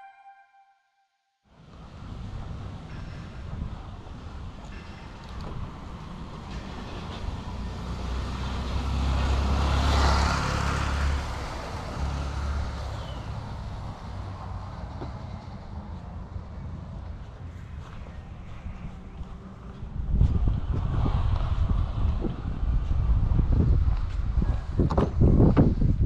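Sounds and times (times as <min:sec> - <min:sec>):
vehicle engine drone: 0:01.5 - 0:26.0.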